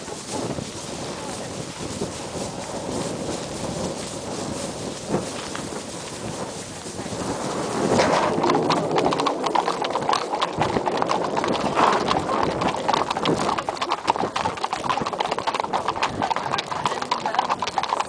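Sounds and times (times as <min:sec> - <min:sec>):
hooves clip-clopping on tarmac: 0:00.0 - 0:18.0.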